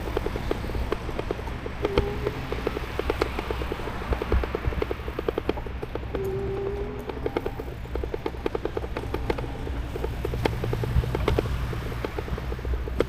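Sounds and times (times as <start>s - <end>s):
fast even ticking: 0.0s - 13.0s
tyre and wind rumble: 0.0s - 13.0s.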